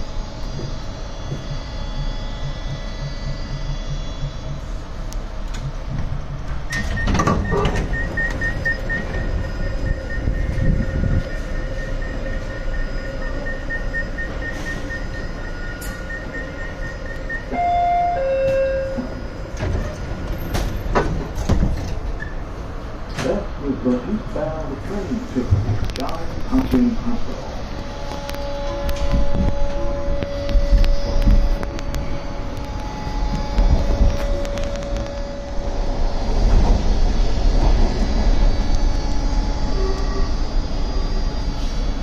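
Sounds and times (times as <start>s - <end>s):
pulsing high tone: 0.0s - 19.5s, 26.9s - 42.0s
subway train rumbling: 0.0s - 42.0s.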